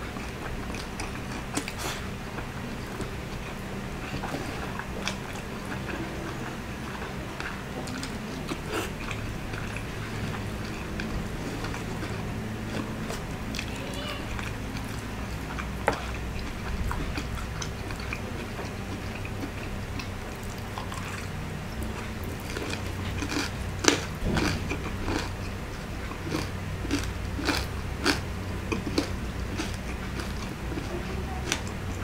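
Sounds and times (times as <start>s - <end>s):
wet mouth chewing sounds: 0.0s - 32.0s.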